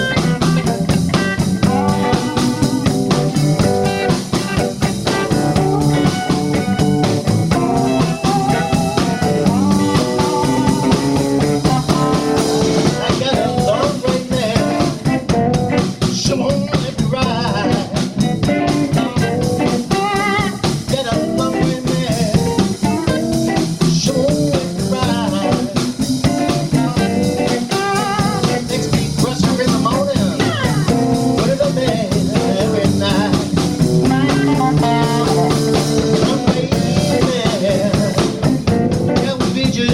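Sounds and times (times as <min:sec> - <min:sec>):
bass guitar: 0:00.0 - 0:39.9
drum kit beat: 0:00.0 - 0:39.9
electric guitars bending notes: 0:00.0 - 0:39.9.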